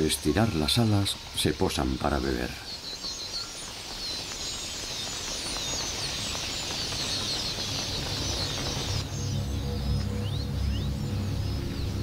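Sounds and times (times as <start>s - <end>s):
fluttering wings: 0.0s - 10.2s
flock of birds chirping: 0.0s - 12.0s.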